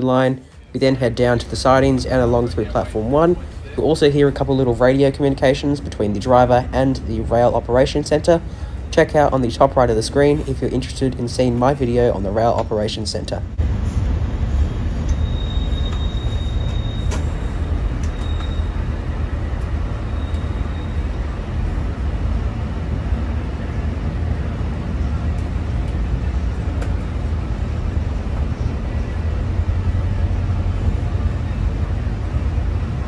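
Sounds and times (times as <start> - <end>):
rail vehicle rumbling: 0.0 - 33.0.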